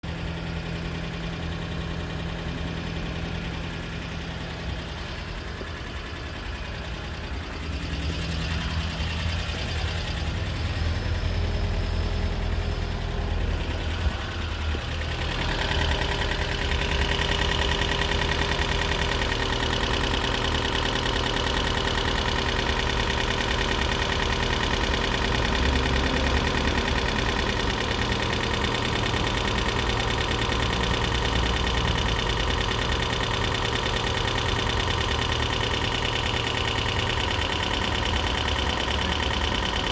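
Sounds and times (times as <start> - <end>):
abnormal engine noise: 0.0 - 39.9
car engine running: 0.0 - 39.9.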